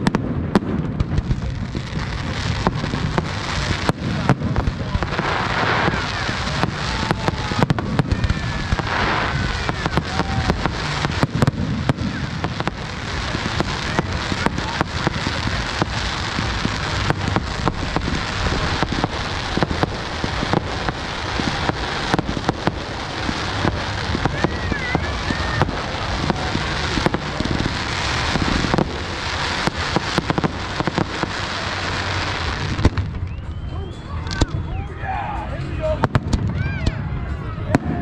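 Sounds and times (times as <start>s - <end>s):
fireworks bangs and crackling pops: 0.0s - 33.5s, 34.2s - 34.6s, 35.8s - 37.0s
firework whistles: 1.1s - 37.0s.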